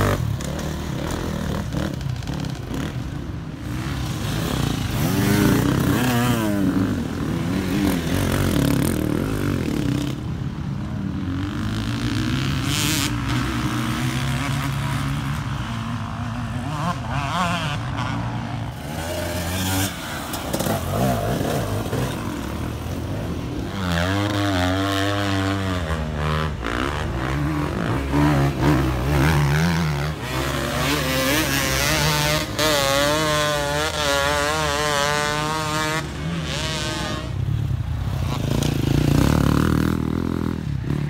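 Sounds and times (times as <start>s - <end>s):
dirt bike engines revving: 0.0s - 41.0s.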